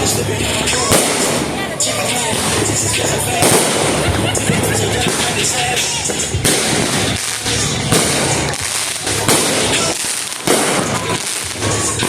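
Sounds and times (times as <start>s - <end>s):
fireworks crackling: 0.0s - 12.0s
loud firework bursts: 0.0s - 12.0s.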